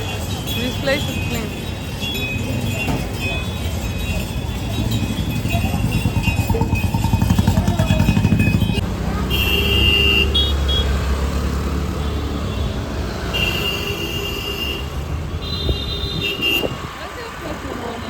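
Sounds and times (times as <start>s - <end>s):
vehicle horns honking: 0.0s - 11.2s, 11.9s - 16.9s
traffic rumble: 0.0s - 18.0s.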